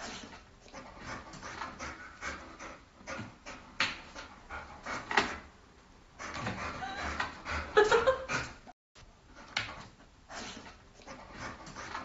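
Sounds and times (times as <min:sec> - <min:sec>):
dog panting: 0:00.0 - 0:05.5, 0:06.2 - 0:08.7, 0:09.4 - 0:12.0.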